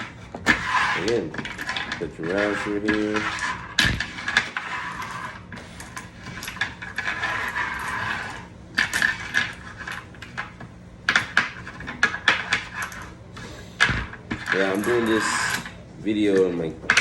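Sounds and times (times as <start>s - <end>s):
cartridges clinking and sliding: 0.0s - 15.8s.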